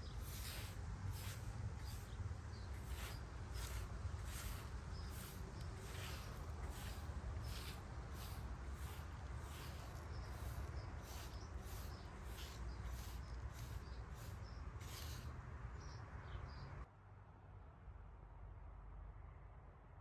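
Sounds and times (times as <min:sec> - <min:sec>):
small birds chirping: 0:00.0 - 0:16.8.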